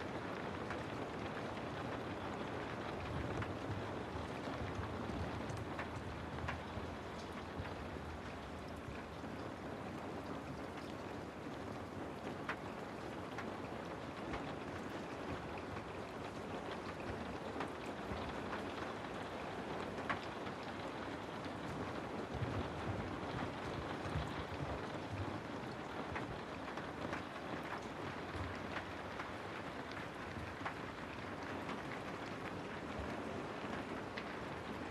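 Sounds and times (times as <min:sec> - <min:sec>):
raindrops tapping: 0:00.1 - 0:34.9.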